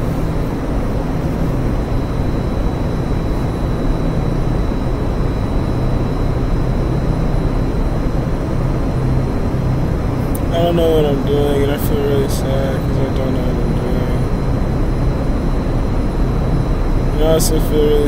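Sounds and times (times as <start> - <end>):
low hum: 0.0 - 18.0
mechanical rumble: 0.0 - 18.0.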